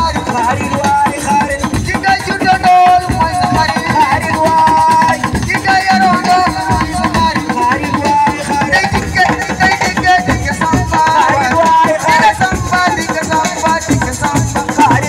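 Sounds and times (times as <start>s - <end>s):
dense drumming and percussion: 0.0s - 15.0s
wavering lead vocal: 0.0s - 15.0s.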